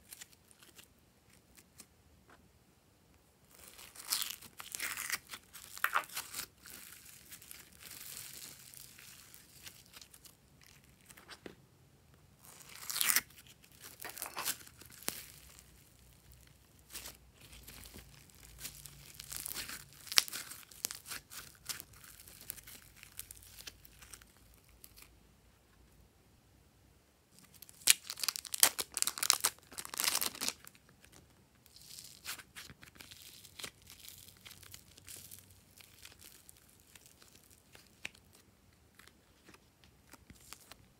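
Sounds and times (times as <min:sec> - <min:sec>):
slime crackling and tearing: 0:03.5 - 0:11.2, 0:12.4 - 0:25.1, 0:27.4 - 0:40.8.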